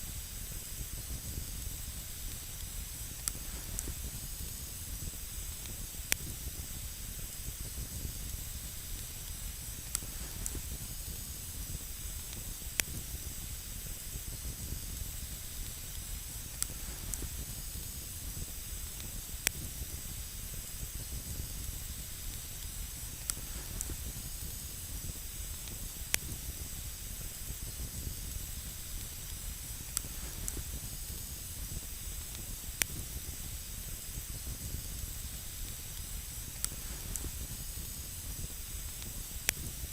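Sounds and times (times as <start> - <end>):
campfire hissing: 0.0 - 39.9
fire crackling pops: 0.0 - 39.9.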